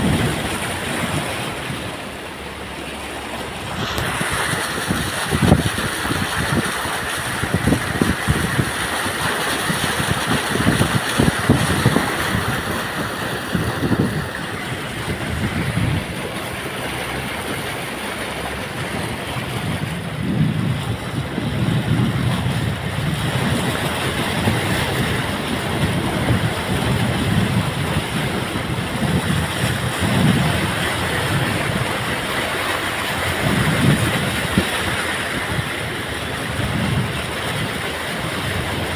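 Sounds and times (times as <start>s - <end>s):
water rushing and splashing: 0.0s - 38.9s
wind buffeting microphone: 0.0s - 38.9s.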